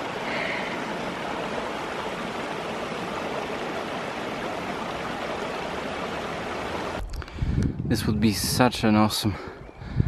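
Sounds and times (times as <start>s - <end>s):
stream running over rocks: 0.0s - 9.6s.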